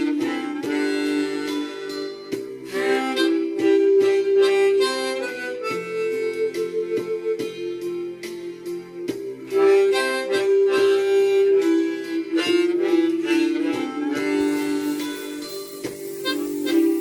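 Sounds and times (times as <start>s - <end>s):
harmonica melody: 0.0s - 17.0s
rhythmic accompaniment: 0.0s - 17.0s.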